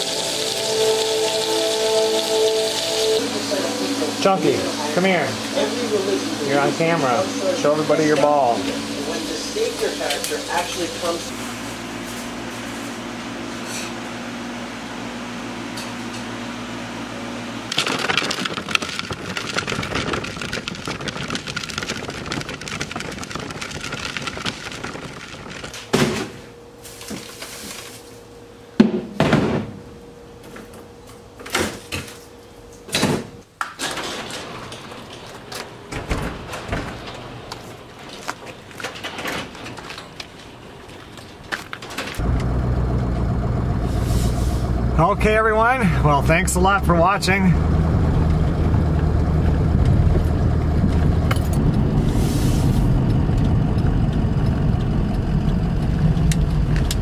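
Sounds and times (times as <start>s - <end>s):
steady hum: 0.0s - 33.4s, 42.0s - 57.0s.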